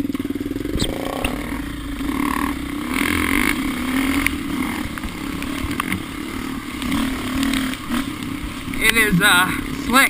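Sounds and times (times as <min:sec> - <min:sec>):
off-road vehicle engine running: 0:00.0 - 0:10.0.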